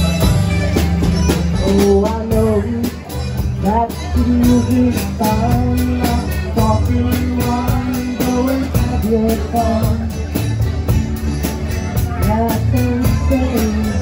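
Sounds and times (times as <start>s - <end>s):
electric bass: 0.0s - 14.0s
steady drum beat: 0.0s - 14.0s
strummed acoustic guitars: 0.0s - 14.0s.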